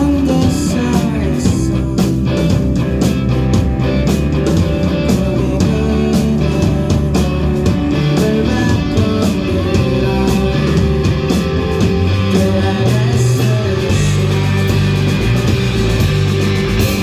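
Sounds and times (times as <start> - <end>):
bass guitar: 0.0 - 17.0
electric guitars: 0.0 - 17.0
steady drum beat: 0.0 - 17.0.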